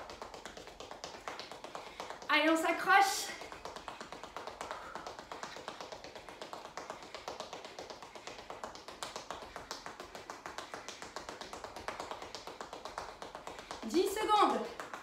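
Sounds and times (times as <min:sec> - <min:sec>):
sneakers tapping on tiled floor: 0:00.0 - 0:15.0.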